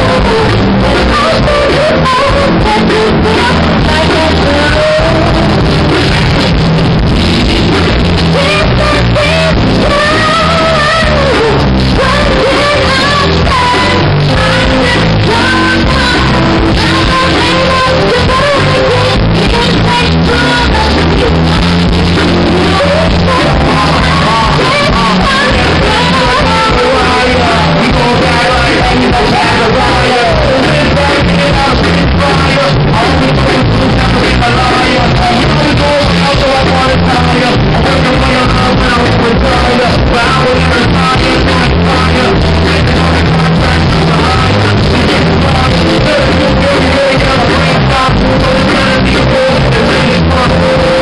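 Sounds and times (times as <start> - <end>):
woman singing into microphone: 0.0 - 6.2, 8.3 - 51.0
drums: 0.0 - 51.0
electric guitar: 0.0 - 51.0
keyboard: 0.0 - 51.0
live band playing: 0.0 - 51.0.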